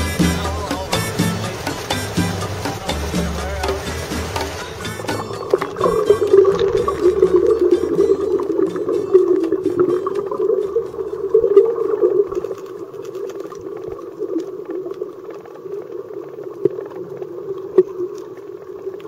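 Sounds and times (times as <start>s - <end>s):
muffled underwater rush: 0.0s - 19.0s
underwater clicks and crackles: 3.7s - 19.0s.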